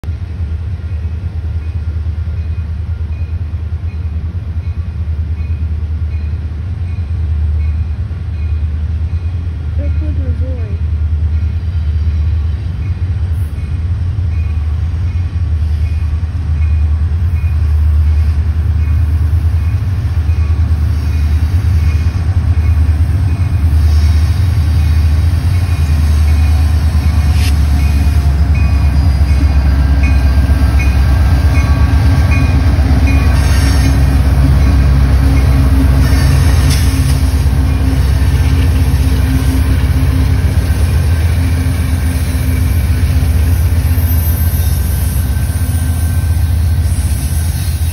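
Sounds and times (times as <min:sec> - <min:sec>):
locomotive engine rumble: 0:00.0 - 0:47.9.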